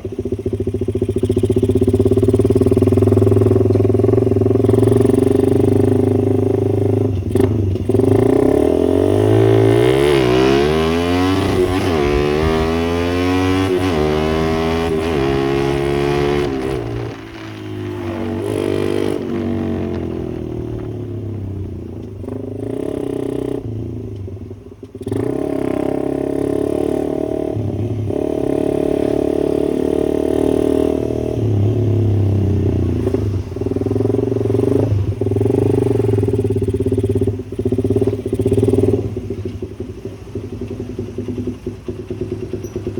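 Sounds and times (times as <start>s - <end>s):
motorcycle engine idling and revving: 0.0s - 42.9s.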